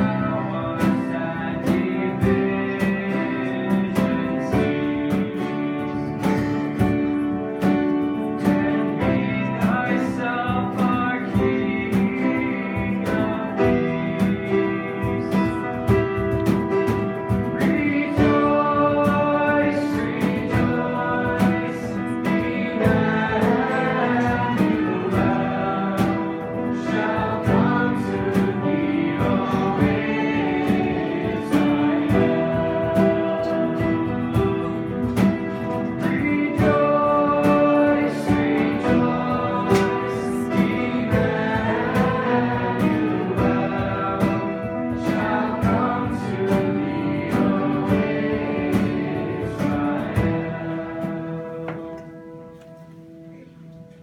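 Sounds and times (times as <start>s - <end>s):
person singing: 0.0s - 52.5s
strummed acoustic guitar: 0.0s - 54.0s.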